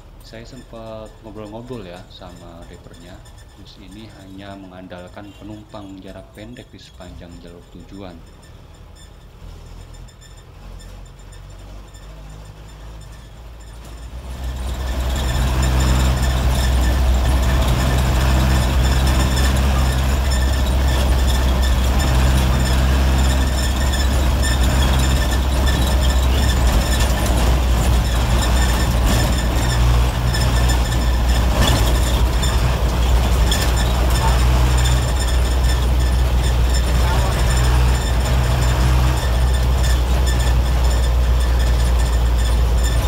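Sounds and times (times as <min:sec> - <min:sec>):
bus diesel engine drone: 0:00.0 - 0:43.0.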